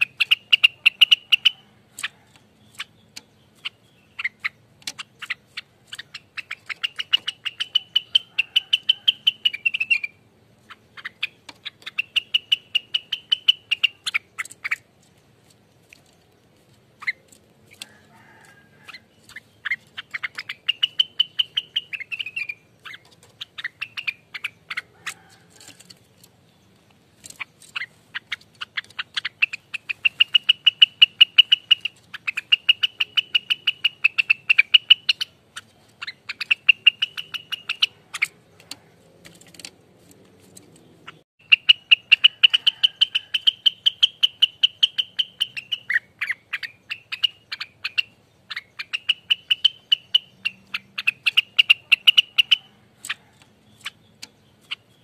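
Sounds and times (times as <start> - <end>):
bird chattering and trilling: 0.0 - 55.0.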